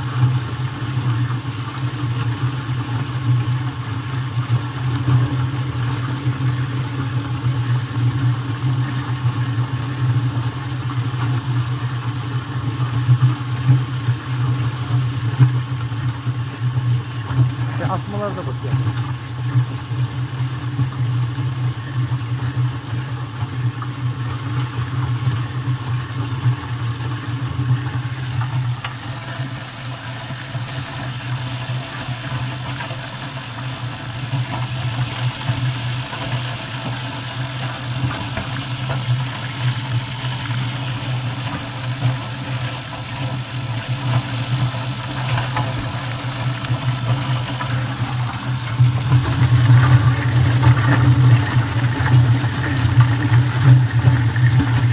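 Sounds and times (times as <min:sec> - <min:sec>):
corn-shelling machine humming: 0:00.0 - 0:54.9.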